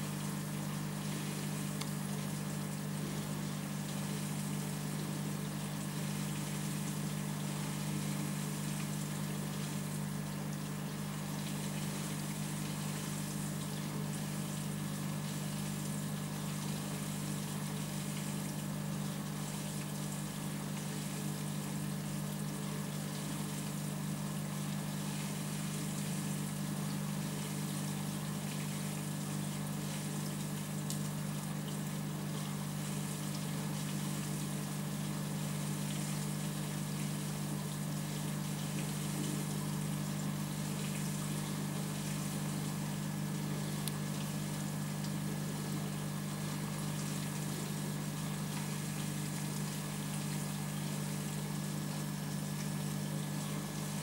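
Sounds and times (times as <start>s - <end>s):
aquarium pump humming: 0.0s - 54.0s.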